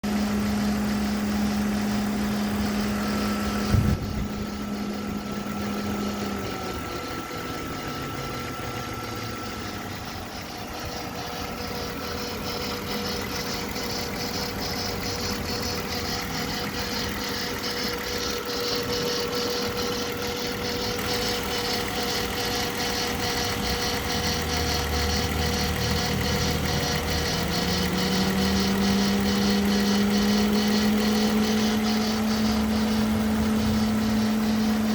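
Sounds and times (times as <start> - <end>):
engine running: 0.0 - 34.9
steady whining tone: 0.0 - 34.9
fine regular ticking: 0.1 - 34.9.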